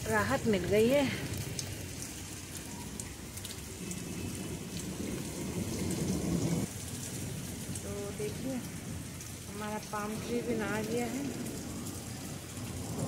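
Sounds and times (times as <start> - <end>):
heavy rain pattering on concrete: 0.0 - 13.0.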